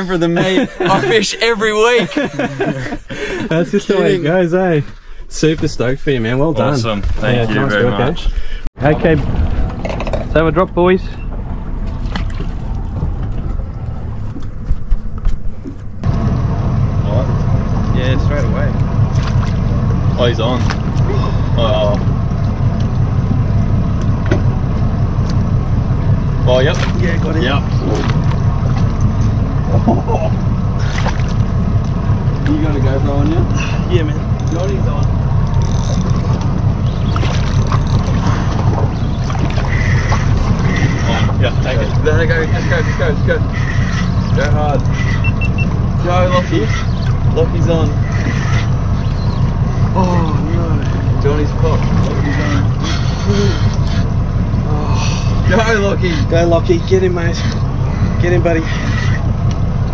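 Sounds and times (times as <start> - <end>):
low rumble aboard boat: 0.0 - 59.9.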